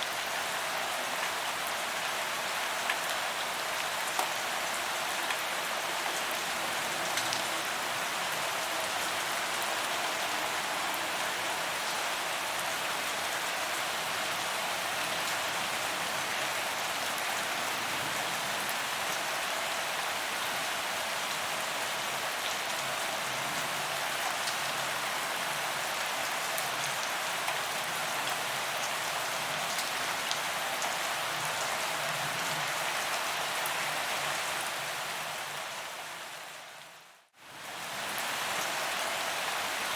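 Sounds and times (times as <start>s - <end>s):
rain on pavement: 0.0s - 36.8s, 37.4s - 39.9s.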